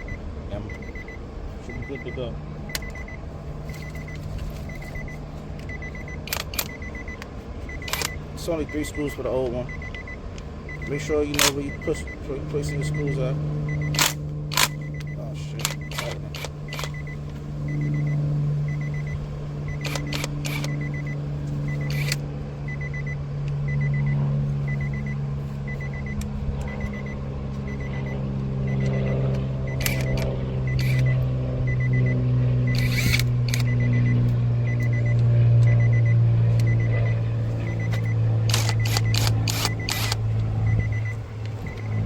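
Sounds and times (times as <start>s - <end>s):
car engine idling: 0.0s - 42.0s
door-open warning chime beeping: 0.0s - 42.0s.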